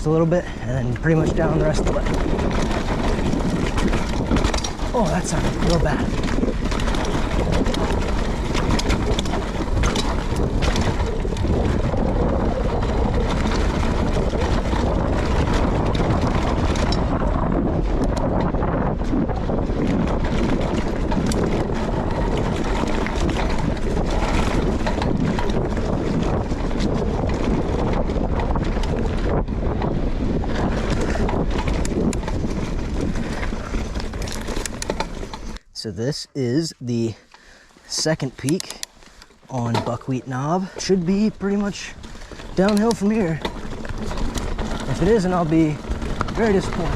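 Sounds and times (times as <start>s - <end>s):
wind rushing on microphone: 0.0s - 37.2s, 39.6s - 46.9s
bike clicks and knocks: 1.0s - 35.7s, 37.3s - 46.9s.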